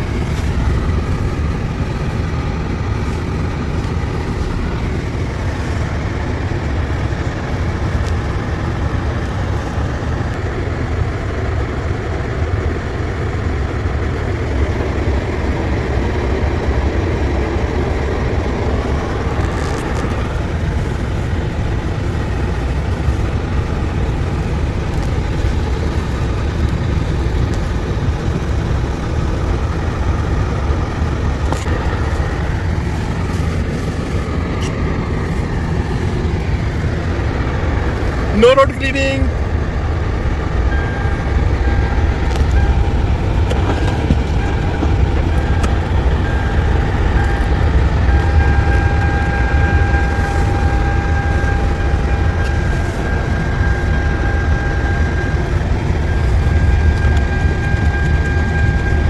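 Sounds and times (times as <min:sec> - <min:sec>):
car driving on snowy road: 0:00.0 - 0:59.0.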